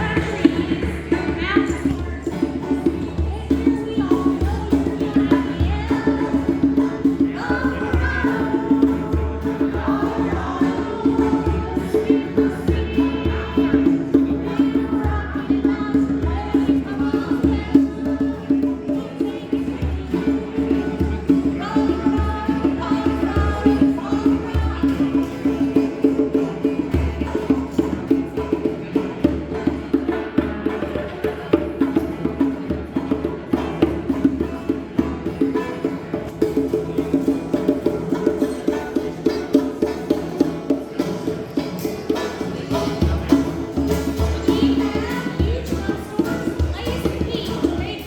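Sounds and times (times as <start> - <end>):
folk song with steady beat: 0.0 - 48.0
voices singing: 0.0 - 48.0.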